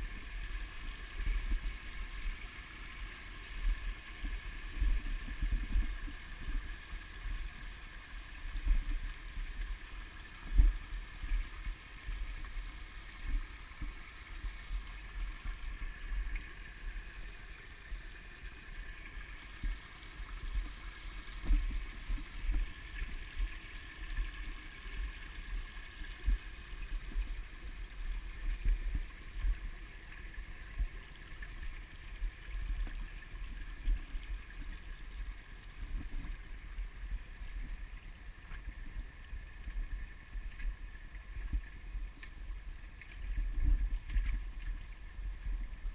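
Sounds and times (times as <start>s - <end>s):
creek babbling over rocks: 0.0s - 45.9s.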